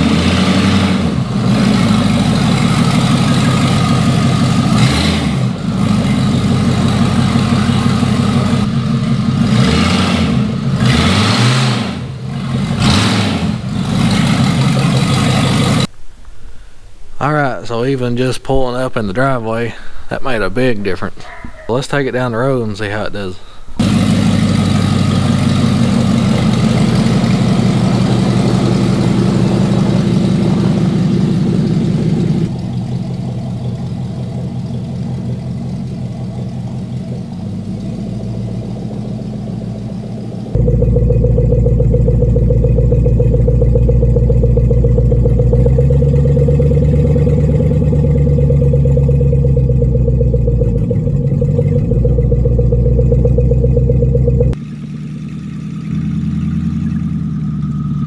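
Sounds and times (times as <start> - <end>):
vehicle engine driving off: 0.0 - 15.9, 23.8 - 58.0
engine drone inside cab: 0.0 - 16.0, 23.4 - 58.0.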